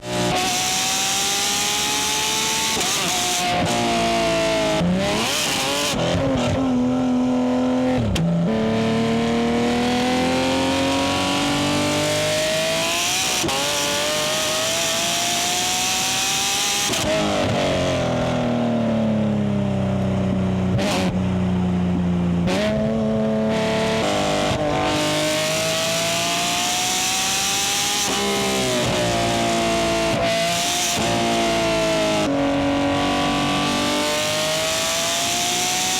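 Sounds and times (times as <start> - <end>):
sports car engine revving: 0.0 - 19.4, 20.1 - 35.9.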